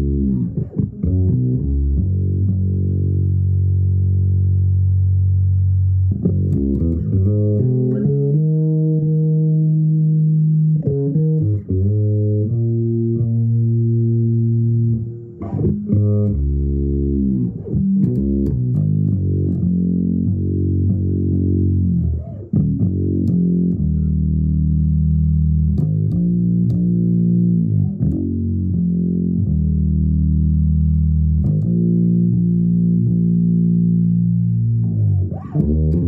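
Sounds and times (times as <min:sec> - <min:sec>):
bass guitar solo: 0:00.0 - 0:36.0.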